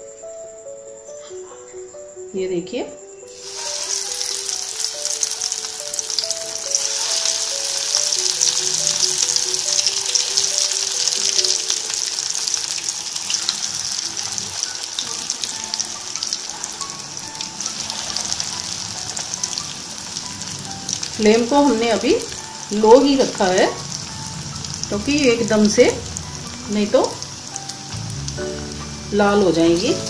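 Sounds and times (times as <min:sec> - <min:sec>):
soft background music: 0:00.0 - 0:30.0
food deep-frying in oil: 0:03.3 - 0:30.0.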